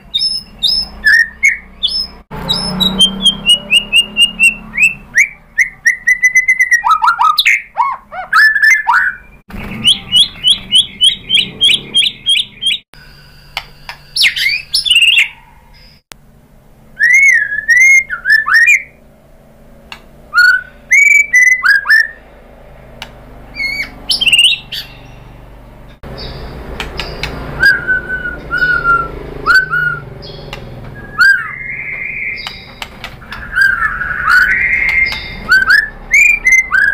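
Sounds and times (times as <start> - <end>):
bird singing whistled phrases: 0.0 - 12.8, 14.1 - 16.0, 17.0 - 19.0, 20.3 - 22.2, 23.5 - 25.2, 27.6 - 36.9.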